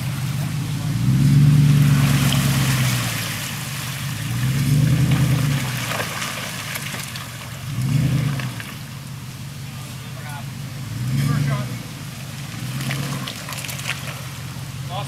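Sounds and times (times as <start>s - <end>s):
mud and water splashing under tyres: 0.0s - 15.0s
suv engine revving: 0.0s - 15.0s.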